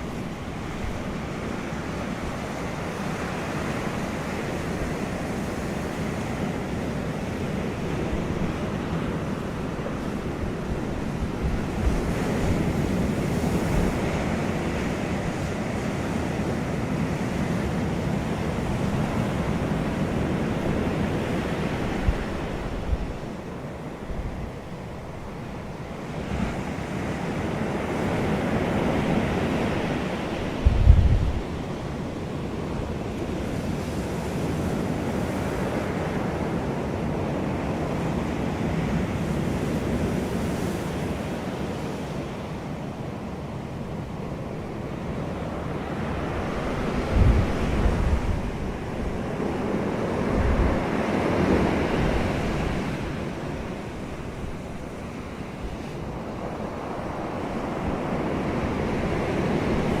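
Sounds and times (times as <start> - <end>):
ocean waves washing: 0.0 - 60.0.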